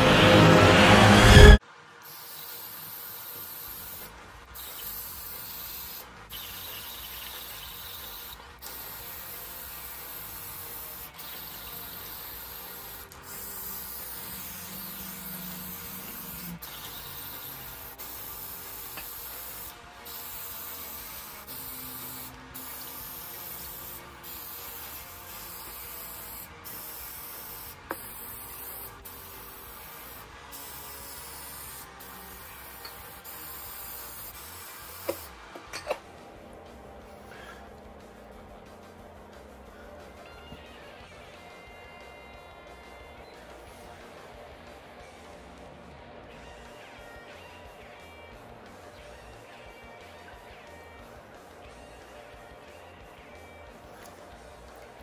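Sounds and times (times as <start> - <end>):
spray paint cans hissing: 1.3 - 42.8, 43.4 - 45.6, 46.4 - 55.0.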